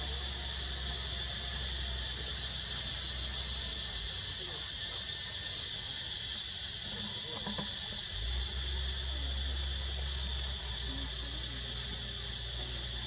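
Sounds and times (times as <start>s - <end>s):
insect chorus droning: 0.0s - 13.0s.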